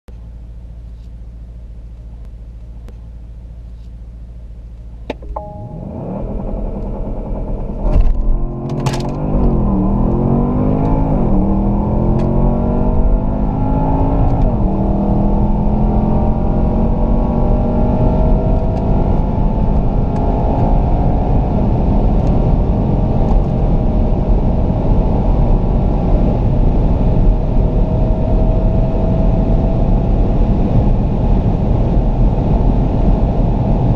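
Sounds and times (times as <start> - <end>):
car engine accelerating: 0.1 - 33.9.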